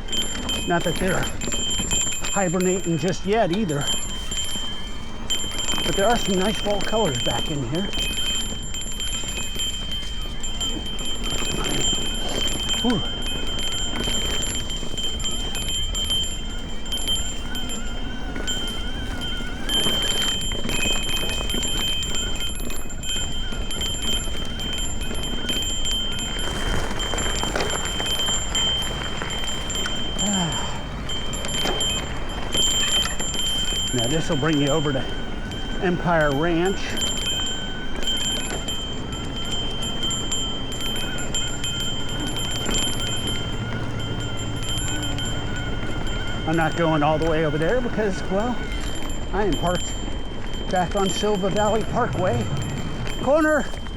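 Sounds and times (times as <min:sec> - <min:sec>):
bike rattling and clicking: 0:00.0 - 0:53.9
faint electric motor whine: 0:00.0 - 0:53.9
high metallic ringing tones: 0:00.0 - 0:53.9
tyre rumble and wind: 0:00.0 - 0:53.9.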